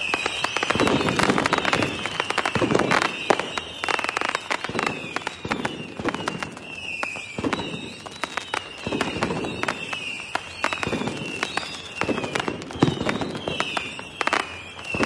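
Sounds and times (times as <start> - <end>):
firework whistles gliding down: 0.0 - 15.0
fireworks cracks and bangs: 0.0 - 15.0.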